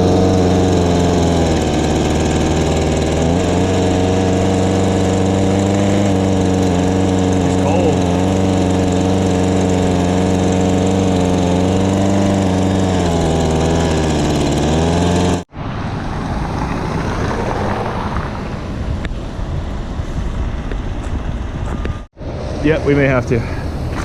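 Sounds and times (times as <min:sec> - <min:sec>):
diesel truck engine running: 0:00.0 - 0:24.0
rough rumble with wind: 0:00.0 - 0:24.0.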